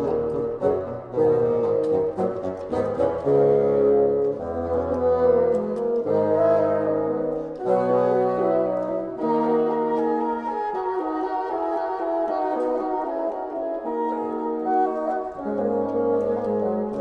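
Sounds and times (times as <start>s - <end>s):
bassoon quartet playing chords: 0.0s - 17.0s.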